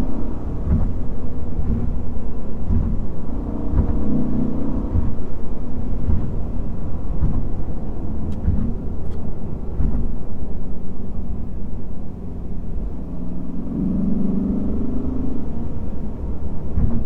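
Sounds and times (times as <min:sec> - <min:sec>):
car engine and exhaust rumbling: 0:00.0 - 0:17.0.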